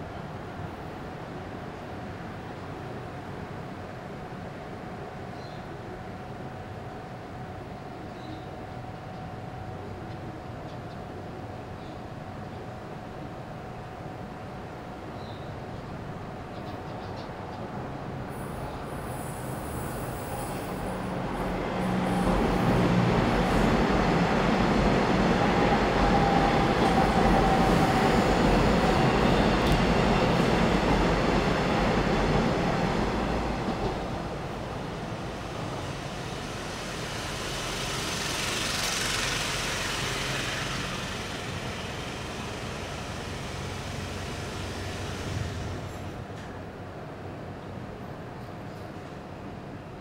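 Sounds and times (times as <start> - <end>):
train passing rumble: 0.0 - 50.0.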